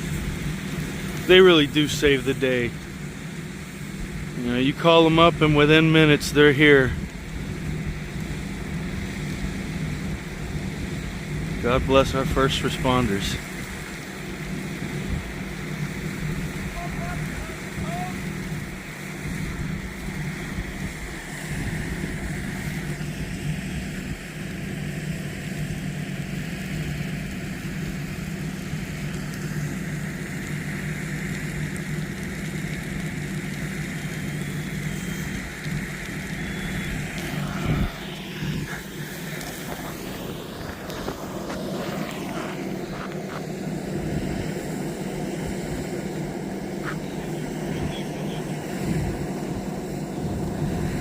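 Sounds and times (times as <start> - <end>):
engine drone: 0.0 - 51.0
wind hiss: 0.0 - 51.0.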